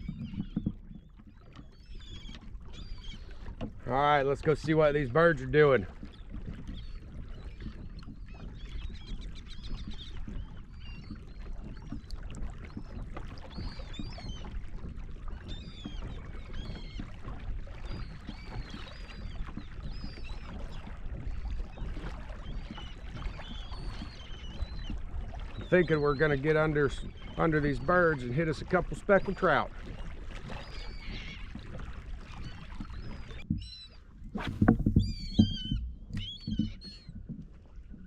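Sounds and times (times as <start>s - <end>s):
seabirds calling: 0.0s - 14.6s, 15.3s - 37.2s
kayak paddle strokes: 0.0s - 38.0s
water sloshing around hull: 0.0s - 38.0s.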